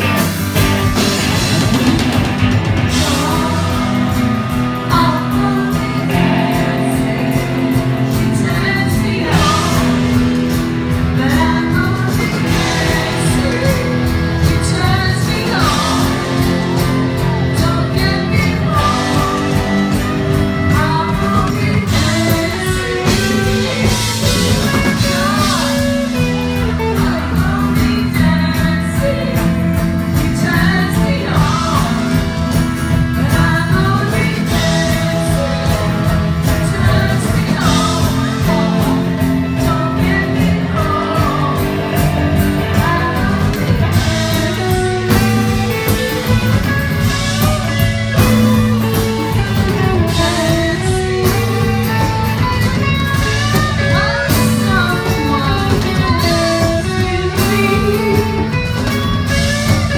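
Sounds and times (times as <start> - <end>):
drum kit: 0.0 - 59.9
electric guitars: 0.0 - 59.9
live glam rock band: 0.0 - 59.9
person singing: 0.0 - 59.9.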